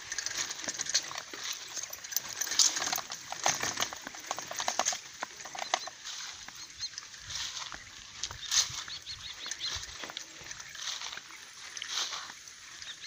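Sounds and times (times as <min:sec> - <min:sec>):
rustling and crackling in dry grass: 0:00.0 - 0:13.0.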